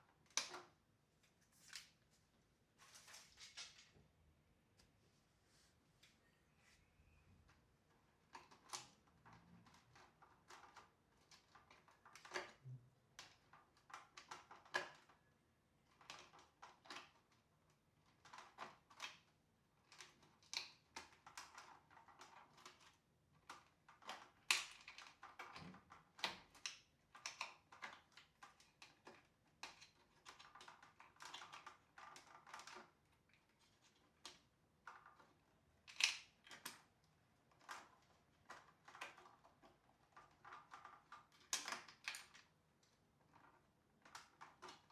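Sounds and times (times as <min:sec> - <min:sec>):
plastic parts clicking and tapping: 0:00.0 - 0:00.8, 0:07.5 - 0:44.9.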